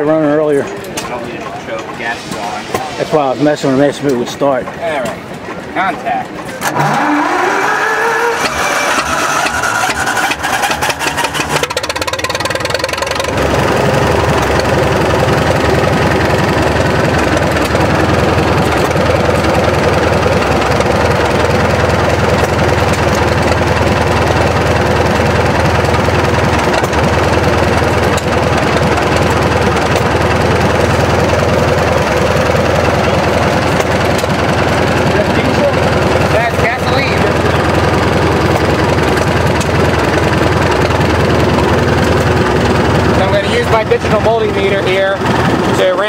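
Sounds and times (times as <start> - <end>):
engine idling: 0.0 - 46.0
engine cranking on starter: 6.4 - 46.0.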